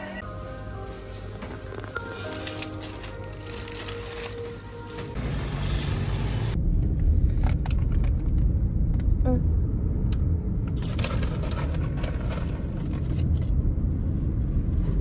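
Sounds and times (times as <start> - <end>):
car engine and road rumble: 0.2 - 15.0.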